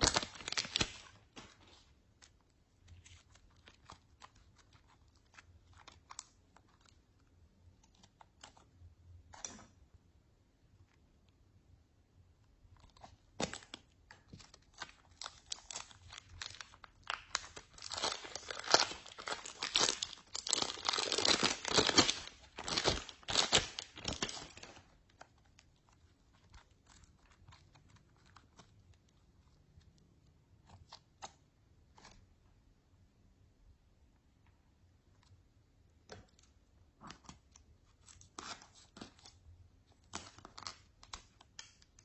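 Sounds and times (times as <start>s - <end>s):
slime squishing and crackling: 0.0s - 9.6s, 12.6s - 32.3s, 36.0s - 42.0s.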